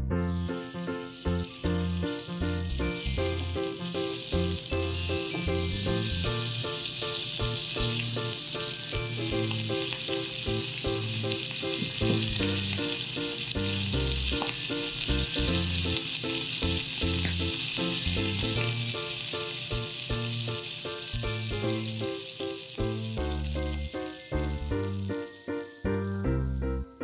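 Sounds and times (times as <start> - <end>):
background music: 0.0 - 27.0
meat sizzling in frying pan: 0.4 - 25.9.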